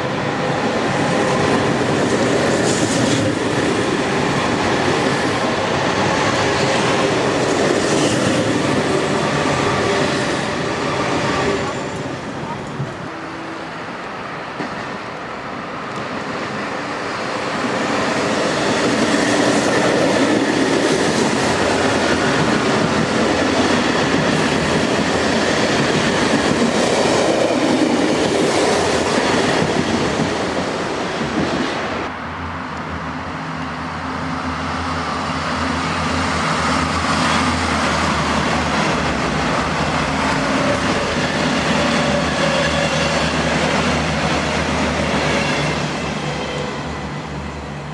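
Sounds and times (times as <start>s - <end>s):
train wheel and rail noise: 0.0s - 47.9s.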